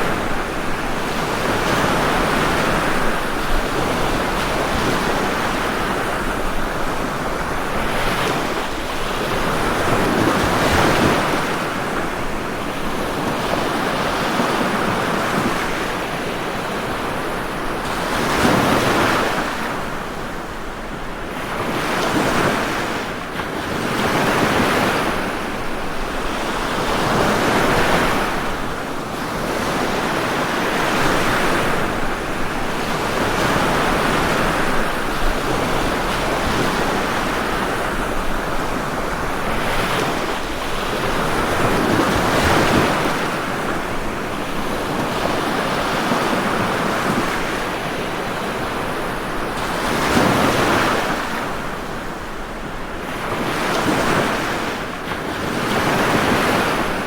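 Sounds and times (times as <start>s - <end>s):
ocean surf breaking: 0.0s - 57.0s.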